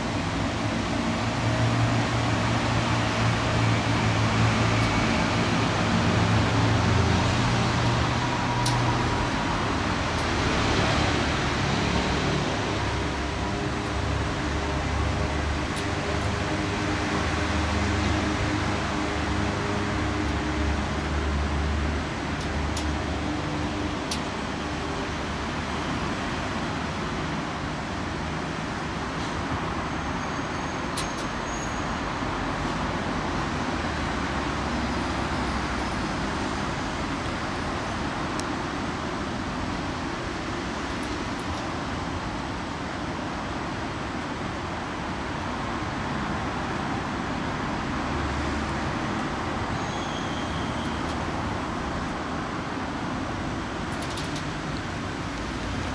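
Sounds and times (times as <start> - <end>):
city road traffic: 0.0 - 55.9.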